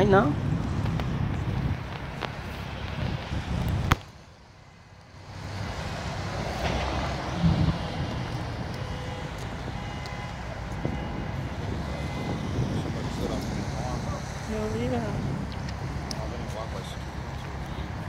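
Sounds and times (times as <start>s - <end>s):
cars driving on wet pavement: 0.0s - 18.0s.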